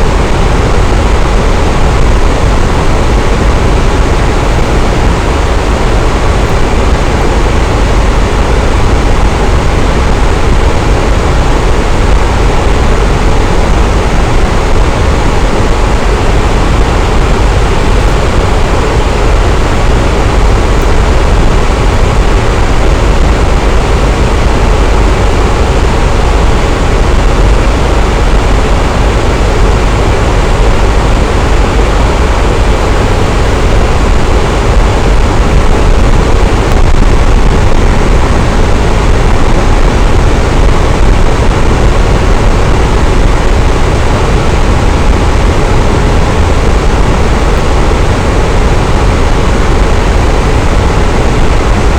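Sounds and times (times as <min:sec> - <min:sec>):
electric fan running: 0:00.0 - 0:51.9.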